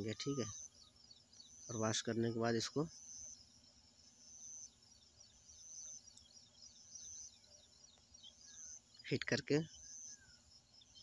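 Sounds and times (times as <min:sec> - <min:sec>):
faint high-pitched chirping: 0:00.0 - 0:11.0.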